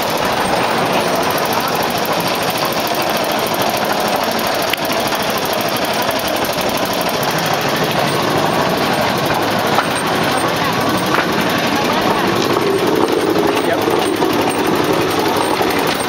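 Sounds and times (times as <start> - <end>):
platform rolling on rails: 0.0 - 16.0
small gasoline engine running: 0.0 - 16.0.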